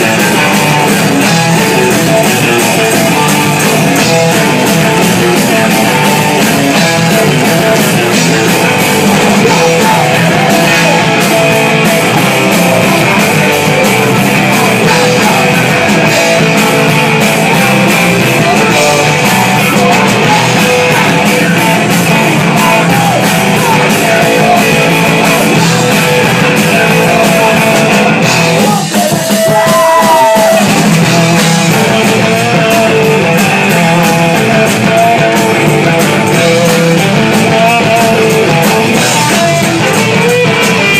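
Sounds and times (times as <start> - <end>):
drums with cymbals: 0.0 - 40.9
electric guitar: 0.0 - 40.9
live rock band: 0.0 - 40.9
person singing: 0.0 - 40.9.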